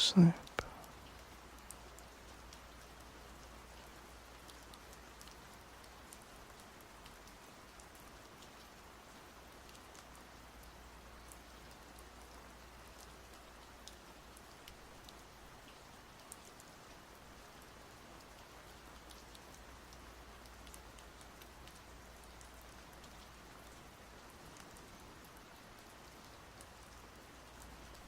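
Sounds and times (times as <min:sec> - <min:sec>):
faint rain falling: 0:00.0 - 0:28.0.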